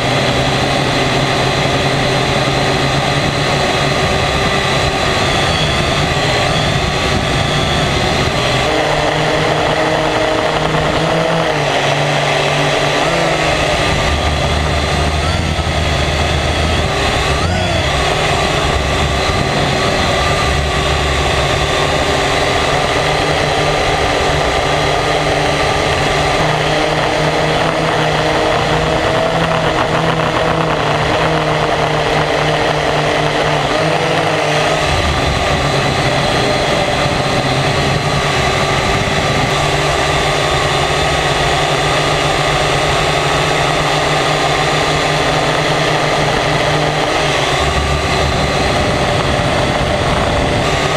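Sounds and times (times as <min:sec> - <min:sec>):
drone propellers whining: 0:00.0 - 0:50.9
low rumble: 0:00.0 - 0:50.9.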